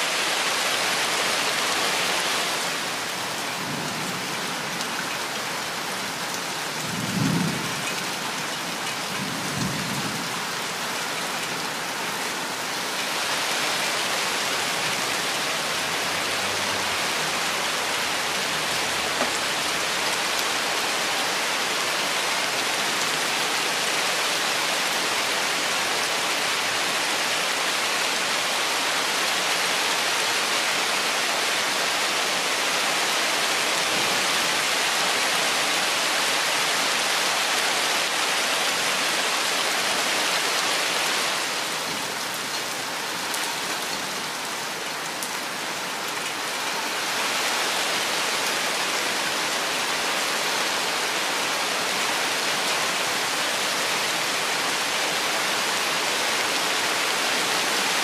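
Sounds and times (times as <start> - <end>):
rain on foliage: 0.0 - 58.0.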